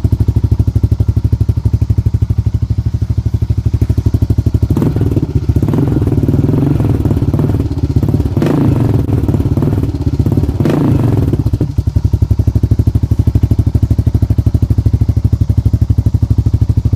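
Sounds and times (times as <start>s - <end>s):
atv engine revving and idling: 0.0s - 16.9s.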